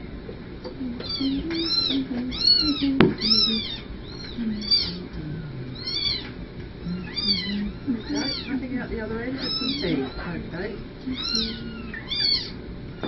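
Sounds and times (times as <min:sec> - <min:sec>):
kittens mewing: 0:00.9 - 0:13.0.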